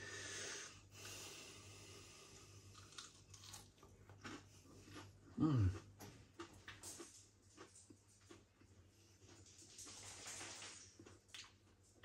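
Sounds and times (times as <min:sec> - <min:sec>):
chewing crispy chicken: 0:02.4 - 0:12.0.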